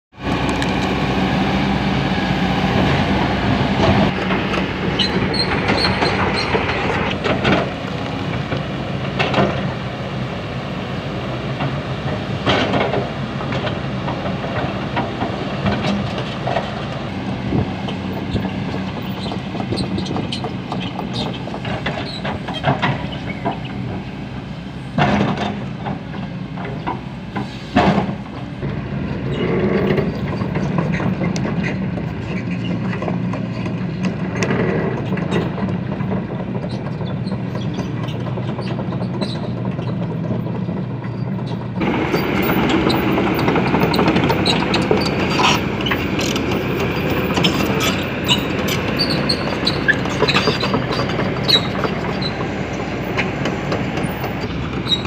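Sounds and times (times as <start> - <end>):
excavator diesel engine running: 0.2 - 55.0
excavator clanks and knocks: 2.8 - 10.0, 11.3 - 55.0.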